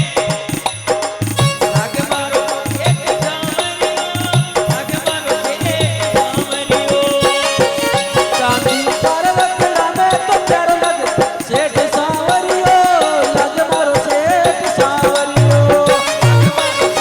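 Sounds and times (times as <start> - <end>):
folk devotional music: 0.0 - 17.0
quick dense percussion: 0.0 - 17.0.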